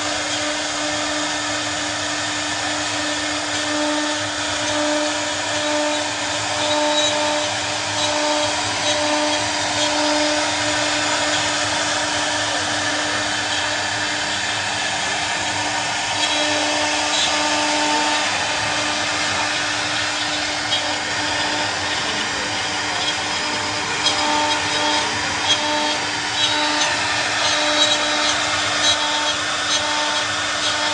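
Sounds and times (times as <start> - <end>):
router spindle whine: 0.0 - 30.9.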